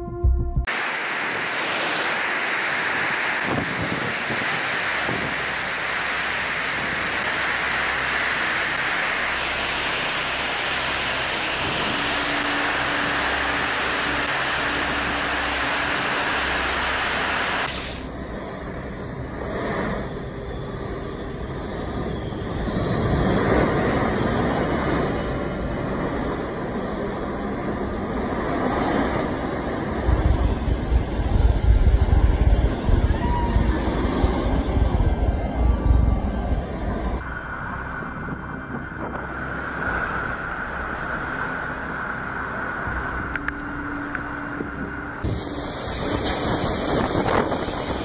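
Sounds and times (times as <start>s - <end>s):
quieter rushing noise: 0.0s - 48.0s
storm wind and rain: 0.0s - 48.0s.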